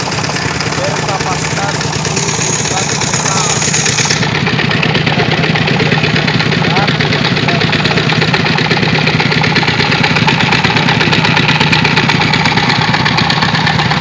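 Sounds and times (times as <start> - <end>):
water pump humming and pulsing: 0.0 - 14.0.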